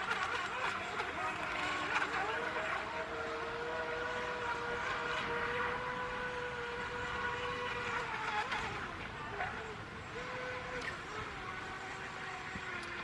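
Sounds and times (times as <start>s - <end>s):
model speed boat motor whining: 0.0s - 13.0s.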